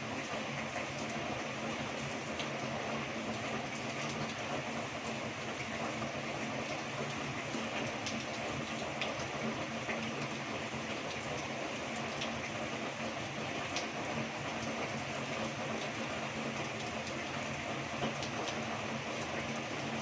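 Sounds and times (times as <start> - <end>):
heavy rain on roof: 0.0 - 20.0.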